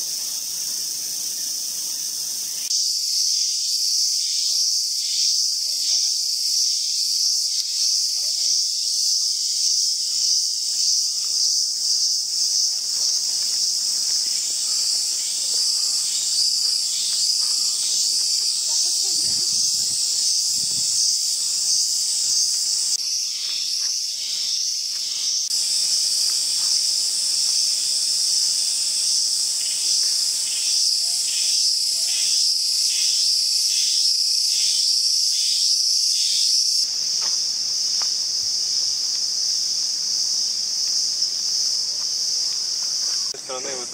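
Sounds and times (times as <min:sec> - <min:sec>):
cicadas buzzing: 0:00.0 - 0:43.9.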